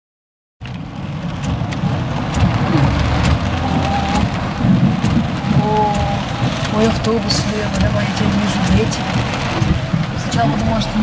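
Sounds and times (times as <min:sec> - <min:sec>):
heavy rain on car roof: 0:00.6 - 0:11.0
raindrops ticking on glass: 0:00.6 - 0:11.0.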